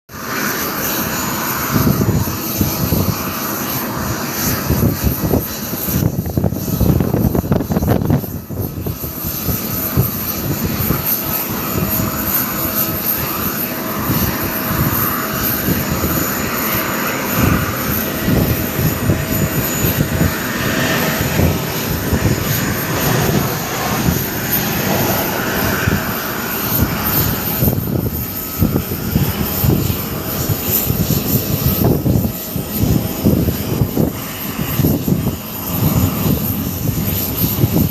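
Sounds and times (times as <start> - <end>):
jet engine roar: 0.1 - 37.9
wind buffeting microphone: 0.2 - 37.9.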